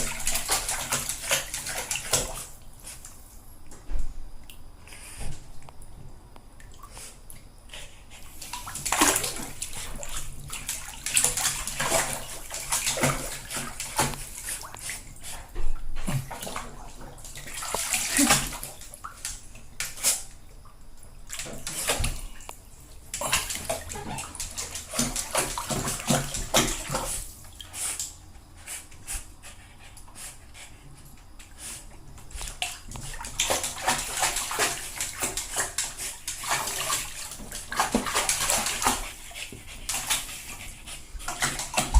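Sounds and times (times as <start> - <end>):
bath water sloshing and splashing: 0.0 - 3.2, 6.6 - 28.2, 31.5 - 41.9.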